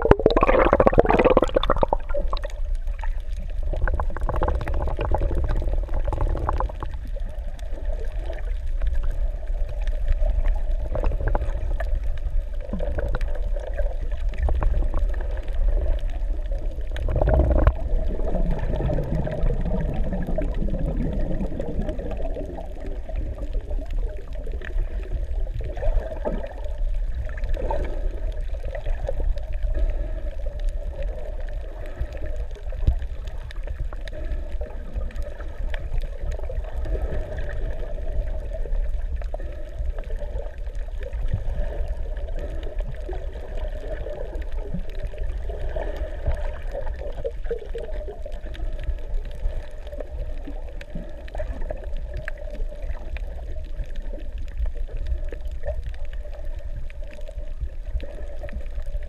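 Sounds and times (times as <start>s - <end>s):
fine crackle: 0.0s - 59.0s
muffled underwater rumble: 0.0s - 59.0s
water gurgling: 0.0s - 59.0s.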